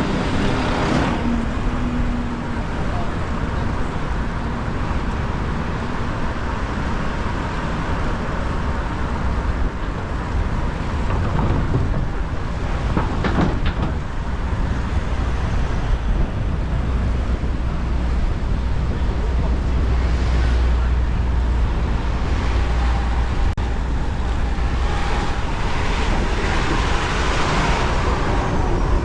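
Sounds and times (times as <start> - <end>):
city street traffic: 0.0 - 29.0
wind and road noise: 0.0 - 29.0.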